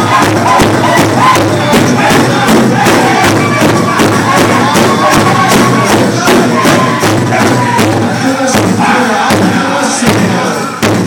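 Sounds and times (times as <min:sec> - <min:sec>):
big drum steady beat: 0:00.0 - 0:11.0
crowd noise: 0:00.0 - 0:11.0
men singing in high voices: 0:00.0 - 0:11.0.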